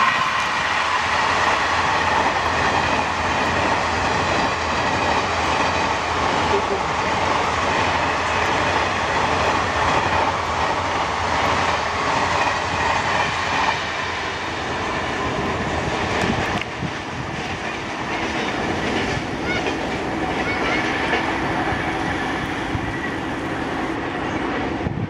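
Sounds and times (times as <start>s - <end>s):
train rushing past: 0.0s - 25.0s.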